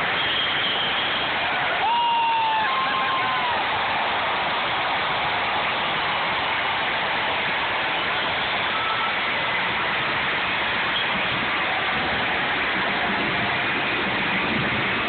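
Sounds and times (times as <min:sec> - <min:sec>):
crowd cheering and applauding: 0:00.0 - 0:15.0.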